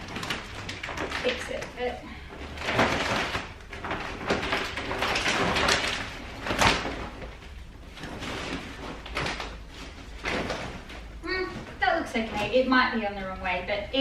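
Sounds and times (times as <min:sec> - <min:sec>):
plastic cover crinkling and rustling: 0:00.0 - 0:14.0.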